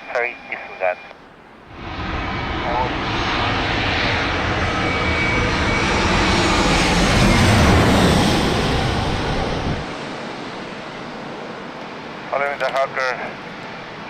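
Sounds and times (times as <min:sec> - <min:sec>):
jet plane passing close: 0:01.6 - 0:14.0.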